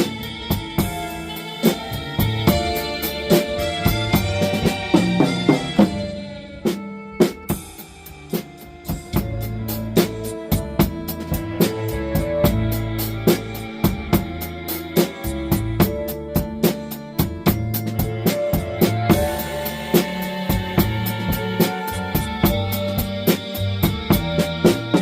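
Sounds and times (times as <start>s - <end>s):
blues backing track: 0.0s - 25.0s
drum kit playing: 0.0s - 25.0s.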